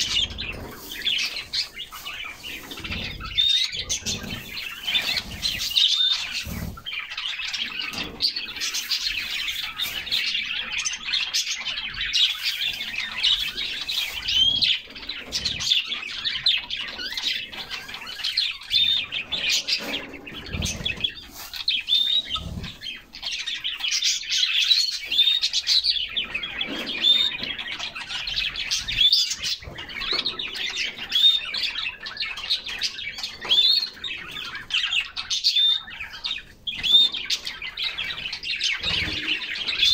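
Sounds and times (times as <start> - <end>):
canaries chirping and singing: 0.0 - 39.9.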